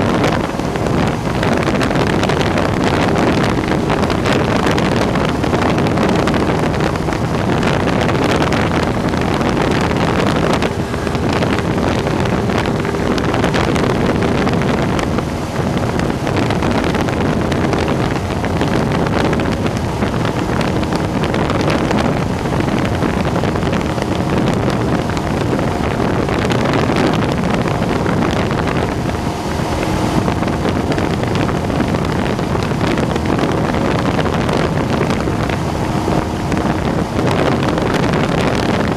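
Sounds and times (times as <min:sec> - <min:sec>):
small plane engine and propeller: 0:00.0 - 0:38.9
wind noise: 0:00.0 - 0:38.9.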